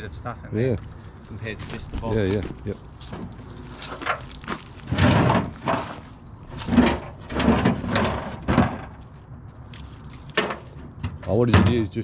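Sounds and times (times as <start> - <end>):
wood knocks and scrapes: 1.6 - 11.8.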